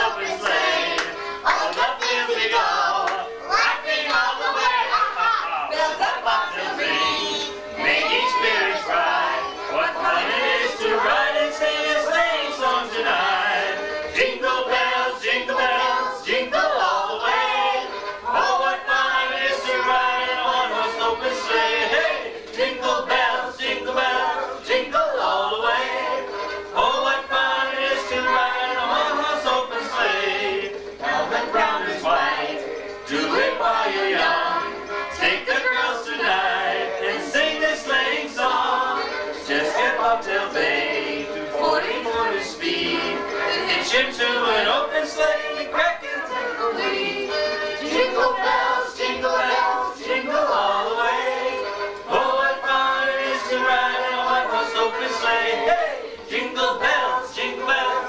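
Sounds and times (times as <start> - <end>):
adults and children singing together: 0.0 - 58.0.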